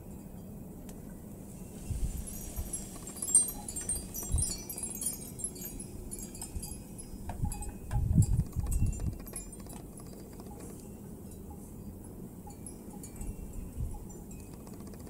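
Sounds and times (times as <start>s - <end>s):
wind chime tinkling: 1.5s - 14.6s.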